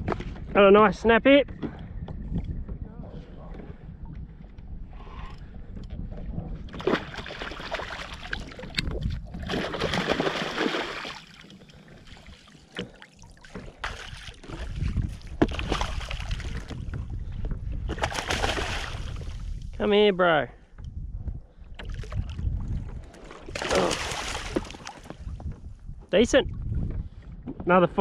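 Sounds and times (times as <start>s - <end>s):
wind rumble on microphone: 0.0s - 10.6s, 13.6s - 28.0s.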